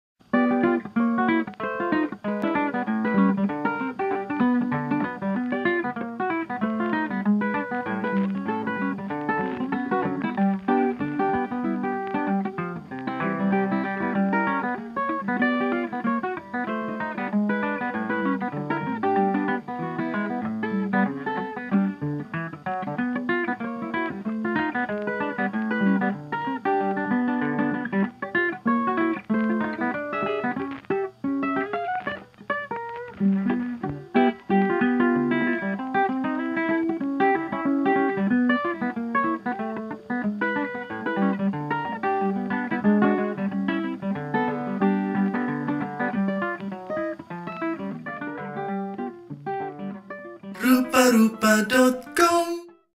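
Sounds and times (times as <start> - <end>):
plucked guitar background music: 0.2 - 52.8.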